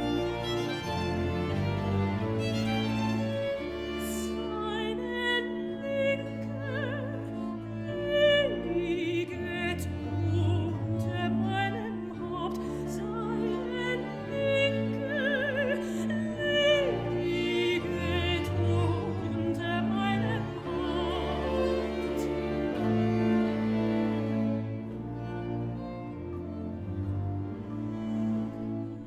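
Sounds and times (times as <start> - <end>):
bowed strings: 0.0 - 29.0.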